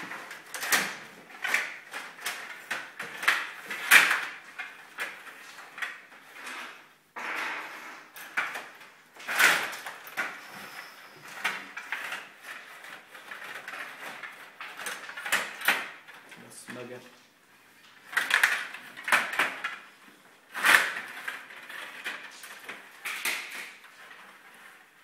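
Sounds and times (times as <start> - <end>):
table hockey clacks and rattles: 0.0 - 7.0, 8.1 - 16.8, 17.8 - 25.0.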